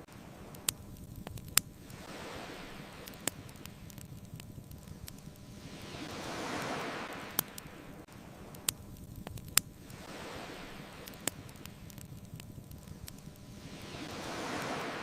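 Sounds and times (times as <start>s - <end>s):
campfire crackling and popping: 0.0s - 15.0s
ocean waves washing on shore: 0.0s - 15.0s.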